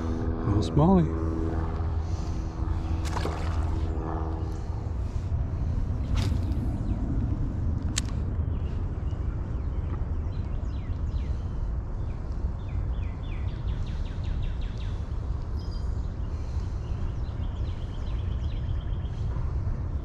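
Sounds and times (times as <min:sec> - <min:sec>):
steady low rumble: 0:00.0 - 0:20.0
songbirds calling: 0:00.8 - 0:20.0.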